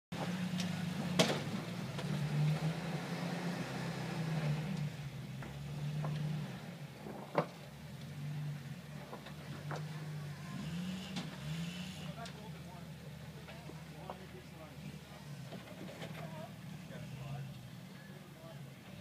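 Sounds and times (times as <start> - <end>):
engine running at low revs: 0.1 - 19.0.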